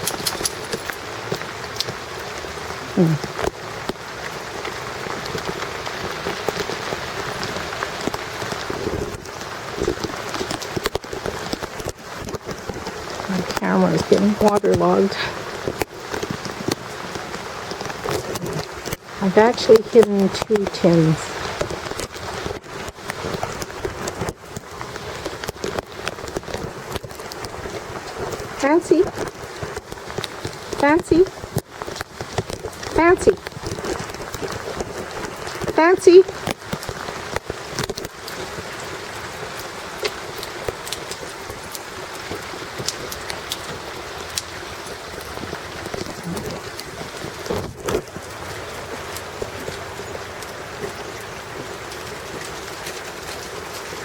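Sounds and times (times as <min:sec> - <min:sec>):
raindrops tapping nearby: 0:00.0 - 0:54.0
steady rain falling: 0:00.0 - 0:54.0.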